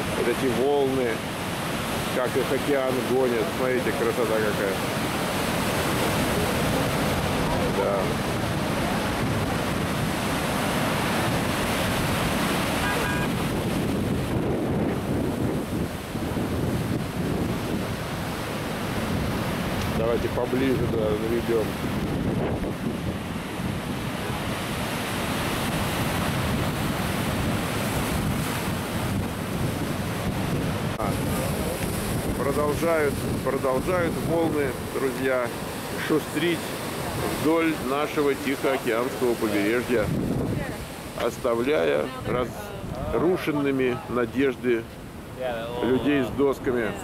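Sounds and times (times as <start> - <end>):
surf waves breaking: 0.0 - 47.0
wind buffeting microphone: 4.4 - 44.2.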